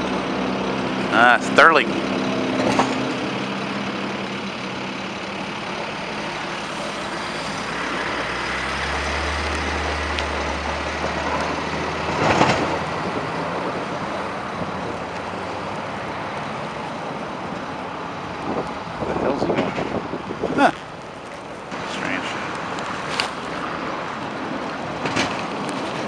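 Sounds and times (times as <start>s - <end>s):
road and snow noise: 0.0s - 26.0s
truck diesel engine passing: 0.0s - 26.0s.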